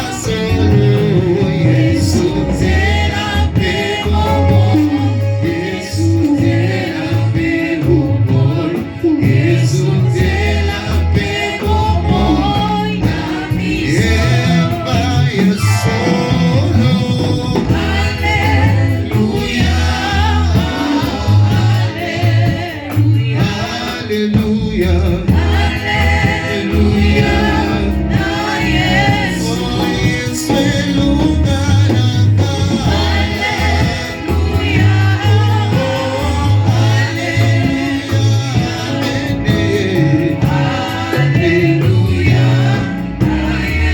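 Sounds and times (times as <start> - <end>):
gospel voices singing with band: 0.0 - 43.9
heavy bass line: 0.0 - 43.9.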